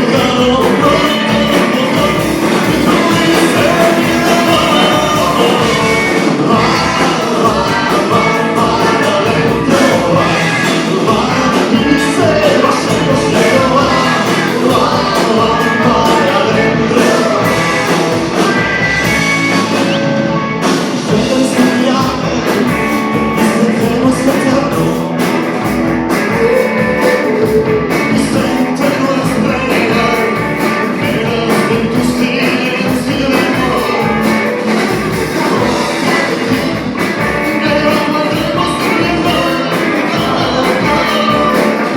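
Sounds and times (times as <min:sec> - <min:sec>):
person singing: 0:00.0 - 0:19.8, 0:20.4 - 0:41.9
live rock band: 0:00.0 - 0:41.9.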